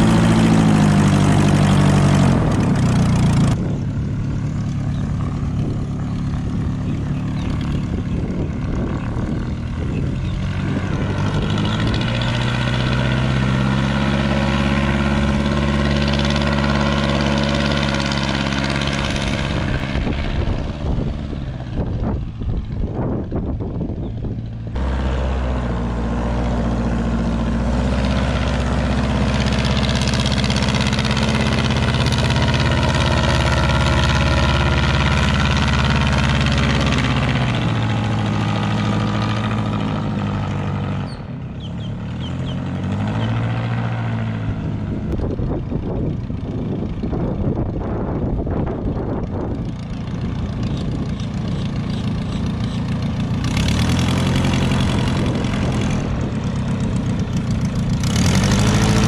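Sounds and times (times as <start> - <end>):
airboat engine and propeller droning: 0.0 - 59.0.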